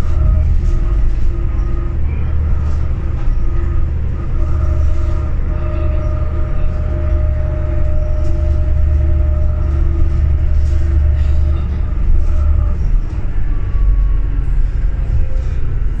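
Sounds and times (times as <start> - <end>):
thin whine: 0.0 - 15.7
bus engine drone: 0.0 - 16.0.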